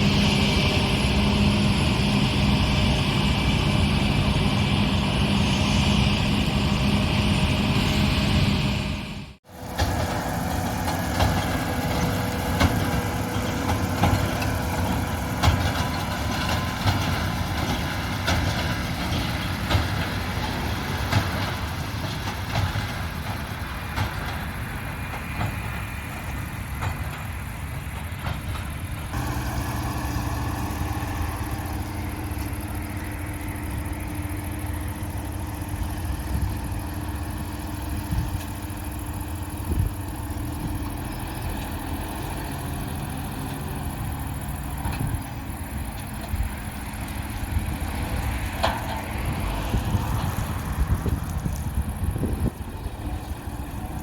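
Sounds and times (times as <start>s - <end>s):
diesel engines and threshing machinery: 0.0s - 54.0s.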